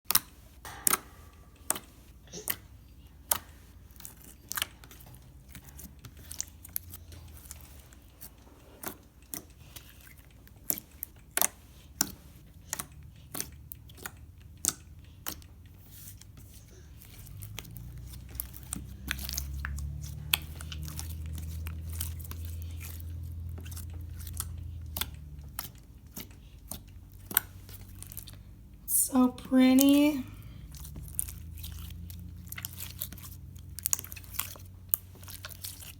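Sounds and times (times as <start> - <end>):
slime squished with wet clicks: 0.1 - 1.0, 1.7 - 28.8, 30.3 - 35.9.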